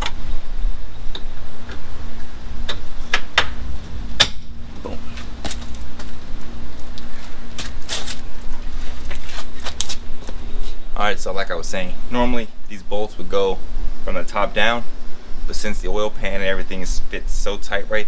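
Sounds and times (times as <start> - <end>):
steady low drone: 0.0 - 15.6.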